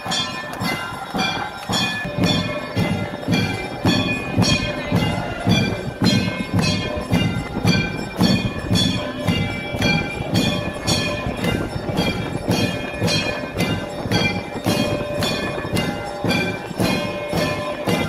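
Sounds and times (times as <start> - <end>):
low beat: 0.0 - 18.0
temple bells ringing: 0.0 - 18.0.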